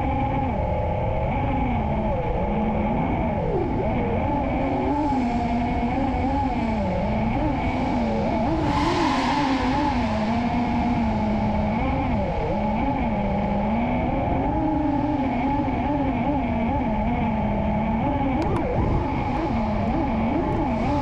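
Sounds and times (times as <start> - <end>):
drone motors whining: 3.3 - 21.0.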